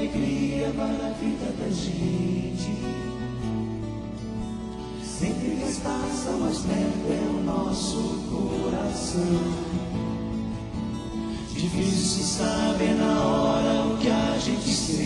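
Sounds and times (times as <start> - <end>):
men singing: 0.0 - 3.8, 4.9 - 10.5, 11.3 - 15.0
acoustic guitars playing: 0.0 - 15.0.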